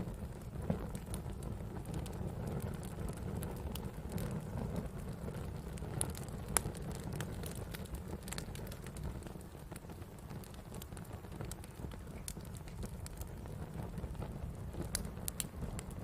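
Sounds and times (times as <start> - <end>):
campfire rumble: 0.0 - 16.0
fire popping and snapping: 0.0 - 16.0.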